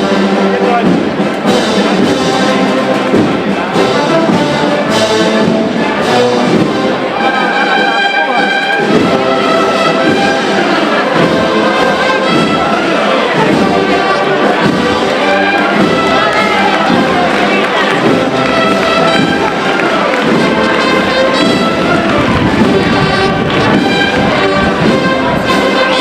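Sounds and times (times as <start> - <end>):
brass band playing a march: 0.0 - 26.0.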